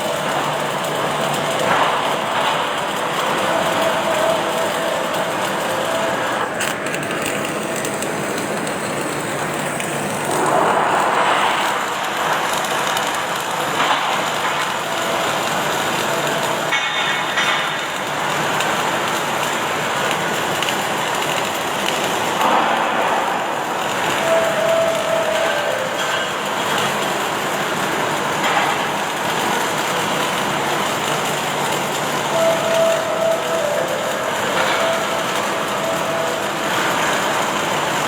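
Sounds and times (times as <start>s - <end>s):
factory background noise: 0.0s - 38.0s
welding machine noise: 0.0s - 38.0s.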